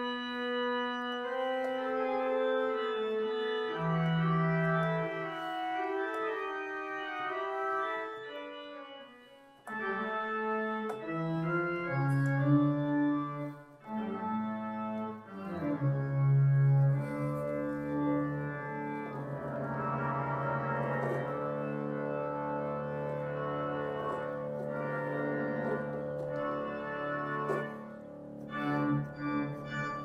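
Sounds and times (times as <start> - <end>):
deep organ pedal notes: 0.0 - 30.0
pipe organ playing slow chords: 0.0 - 30.0.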